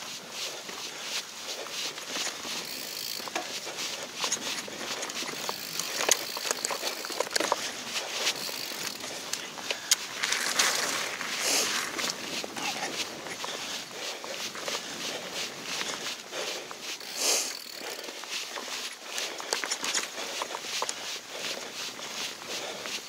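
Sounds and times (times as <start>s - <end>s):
bike tyres rolling on dirt: 0.0s - 23.0s
tyres on gravel: 0.0s - 23.0s
bike clicking and rattling: 0.4s - 23.0s.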